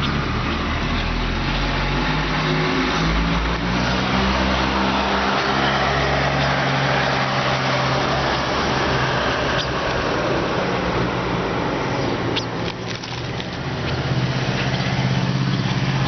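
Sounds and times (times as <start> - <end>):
steady traffic noise: 0.0 - 16.0
vehicle engine hum: 0.0 - 16.0.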